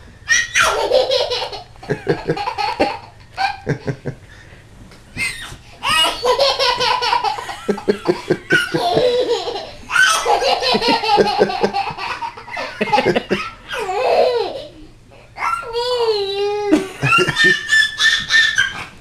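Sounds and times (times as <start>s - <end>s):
toddler laughing: 0.3s - 4.2s, 5.2s - 14.8s, 15.4s - 19.0s.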